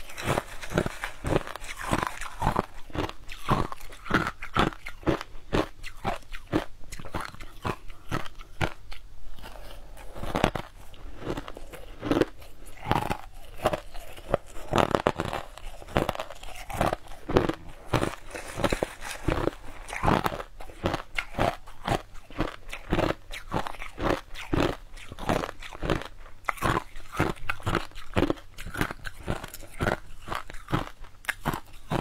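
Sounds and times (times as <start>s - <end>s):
ice crunching between teeth: 0.0s - 32.0s.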